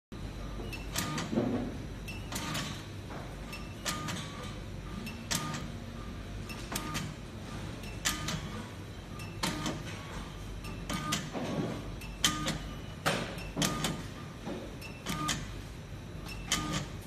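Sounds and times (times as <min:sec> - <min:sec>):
machine humming: 0:00.2 - 0:17.0.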